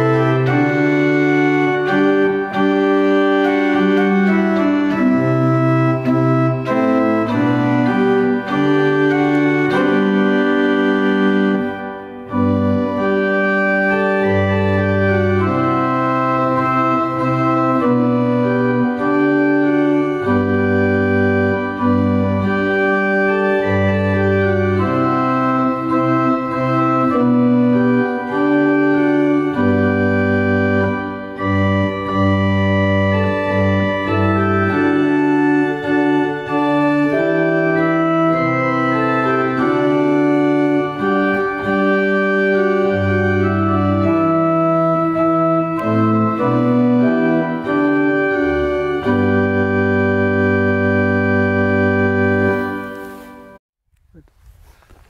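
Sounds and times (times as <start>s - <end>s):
pipe organ playing a hymn: 0.0s - 53.6s.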